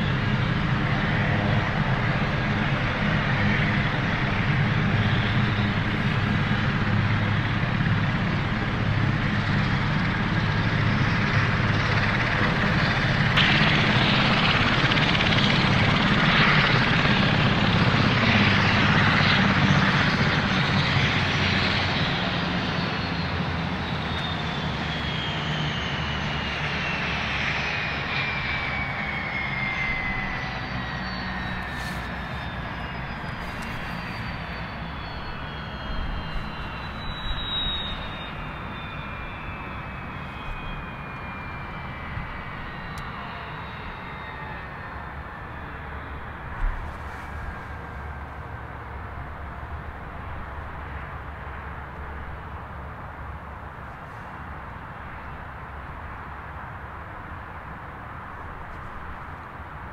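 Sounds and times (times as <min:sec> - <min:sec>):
aircraft turbine engine running: 0:00.0 - 0:59.9.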